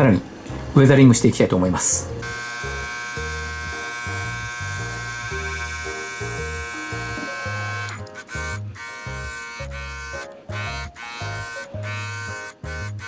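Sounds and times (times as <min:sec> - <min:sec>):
compressor buzzing: 0:02.1 - 0:13.0
airbrush hissing: 0:02.2 - 0:12.8.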